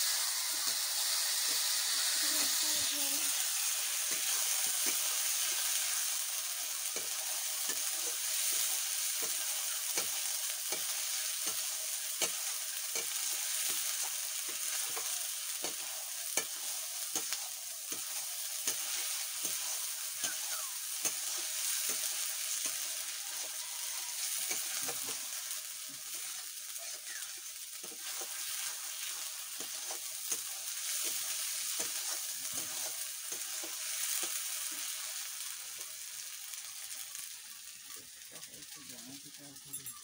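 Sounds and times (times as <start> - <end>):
curry sizzling in oil: 0.0 - 40.0.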